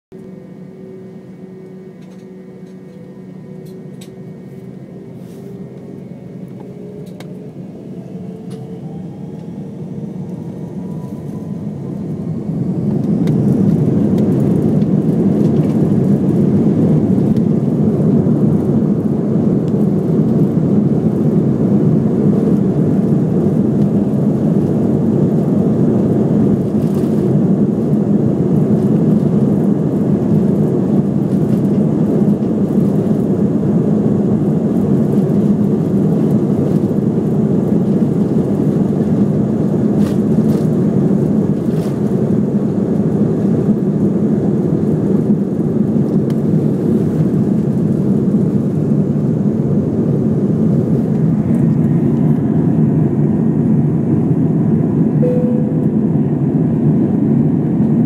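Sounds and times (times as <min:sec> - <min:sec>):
jet engines whining and roaring: 0:00.1 - 0:58.0.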